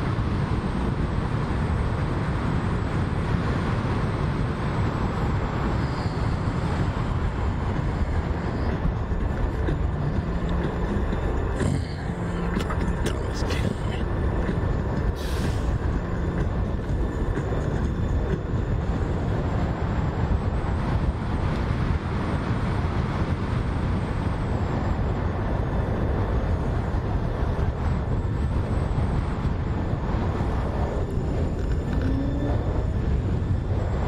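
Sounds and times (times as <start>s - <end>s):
vehicle road and engine rumble: 0.0s - 34.0s.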